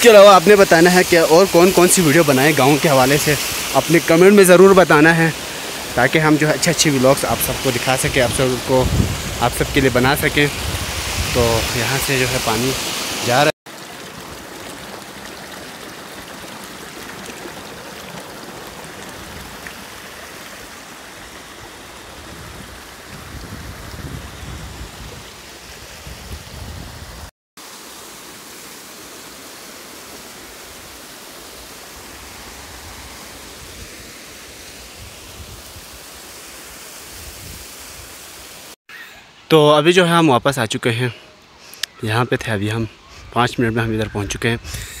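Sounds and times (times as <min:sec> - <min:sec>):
stream rushing over rocks: 0:00.0 - 0:38.8.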